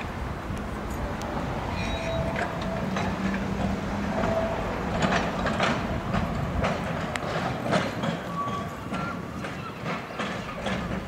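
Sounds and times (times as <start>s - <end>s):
tram motor hum: 0.0s - 11.0s
wheels clacking over rail joints: 0.0s - 11.0s.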